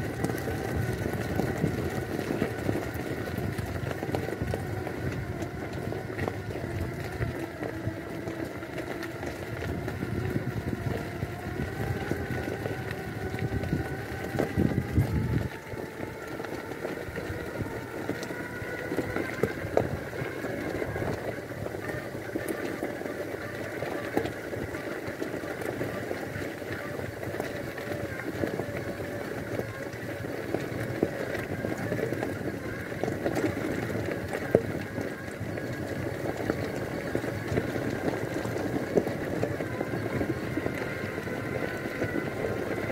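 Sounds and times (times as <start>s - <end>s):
electric motors whining: 0.0s - 42.9s
tyres crunching on gravel: 0.0s - 42.9s.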